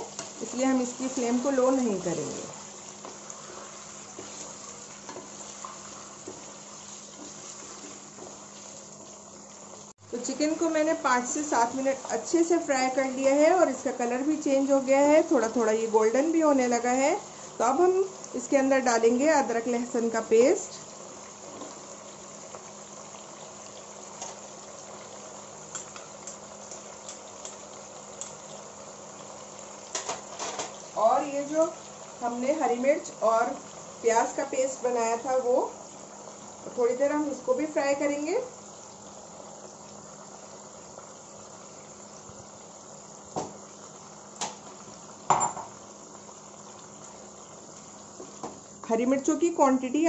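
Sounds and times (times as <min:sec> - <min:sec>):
chicken sizzling in oil: 0:00.0 - 0:50.0.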